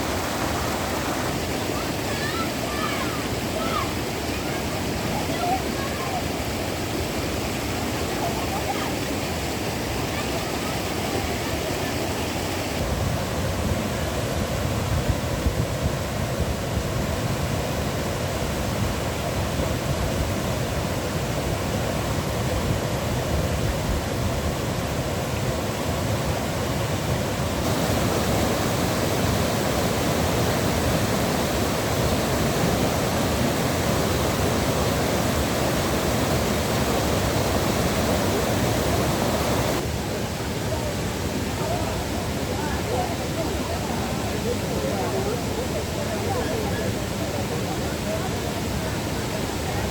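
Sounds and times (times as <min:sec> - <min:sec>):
rushing water: 0:00.0 - 0:49.9.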